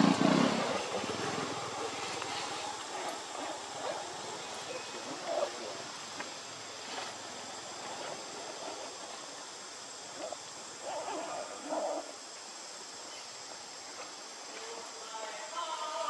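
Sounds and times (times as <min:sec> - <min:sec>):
high insect drone: 0:00.0 - 0:16.0
outdoor background hiss: 0:00.0 - 0:16.0.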